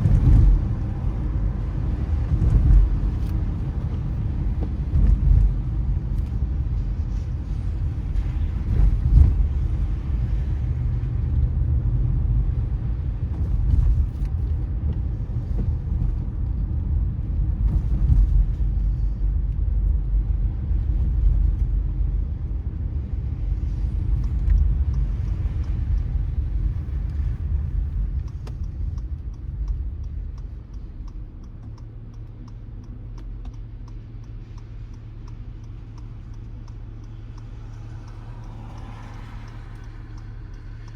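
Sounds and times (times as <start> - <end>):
low engine hum: 0.0 - 40.9
tyres rumbling on wet road: 0.0 - 40.9
light regular ticking: 0.1 - 40.9.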